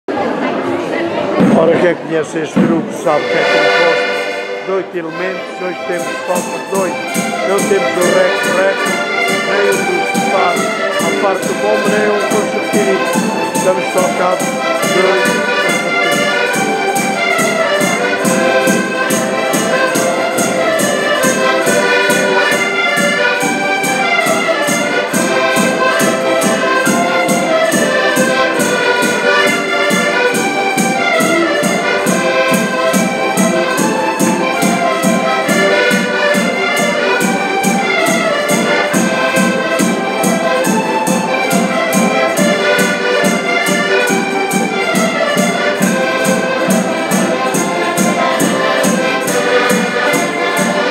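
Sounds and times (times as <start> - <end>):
accordions playing folk tune: 0.1 - 50.9.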